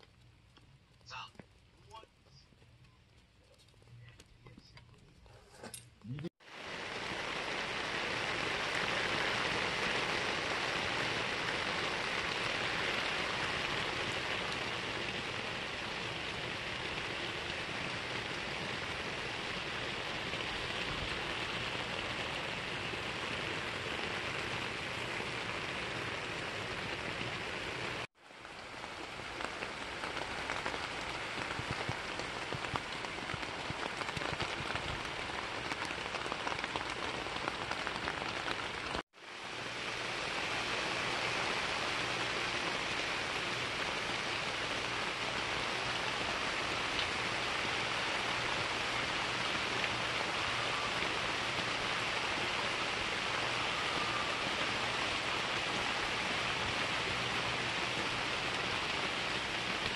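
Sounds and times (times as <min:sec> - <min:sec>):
steady rain falling: 0:00.0 - 0:05.4, 0:06.4 - 0:59.9.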